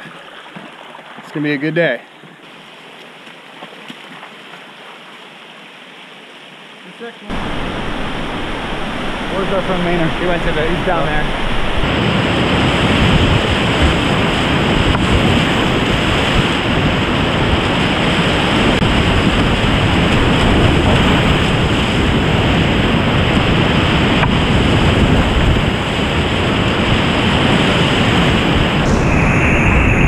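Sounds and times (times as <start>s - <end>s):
whitewater rapids rushing: 4.2s - 30.0s.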